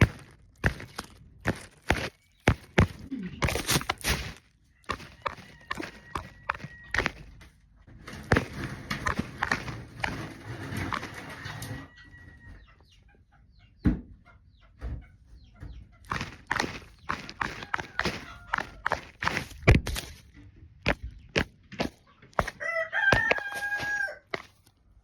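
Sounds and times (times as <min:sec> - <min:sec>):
scratching and pecking: 0:00.0 - 0:12.0, 0:15.7 - 0:25.0
chickens clucking: 0:00.0 - 0:25.0.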